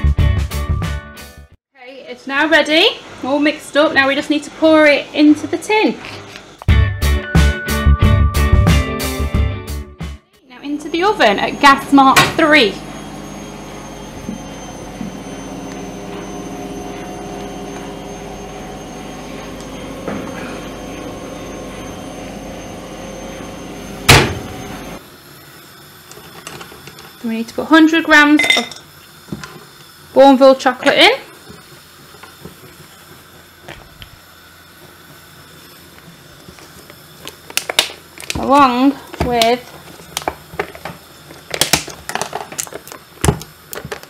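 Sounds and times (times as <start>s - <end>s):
appliance fan humming: 1.8s - 6.7s, 10.5s - 44.0s.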